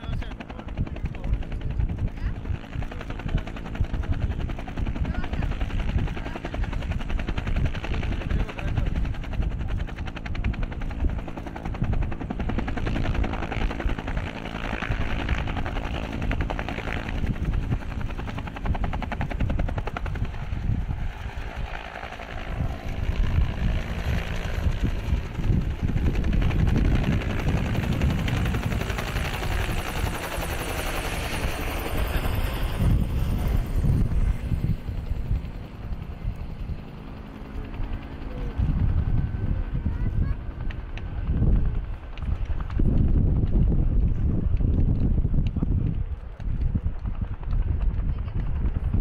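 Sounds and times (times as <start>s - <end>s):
helicopter engine drone: 0.0s - 49.0s
helicopter rotor beating: 0.0s - 49.0s.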